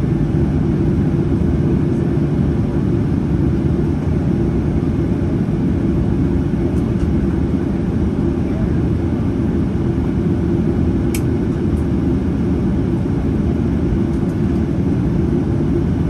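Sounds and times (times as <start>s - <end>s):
airplane cabin engine rumble: 0.0s - 16.0s.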